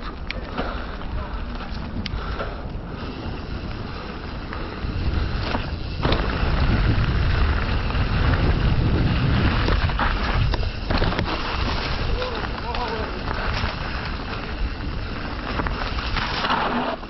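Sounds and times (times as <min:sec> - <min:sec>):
wind buffeting microphone: 0:00.0 - 0:16.3
bike rolling and rattling on dirt: 0:00.0 - 0:17.0.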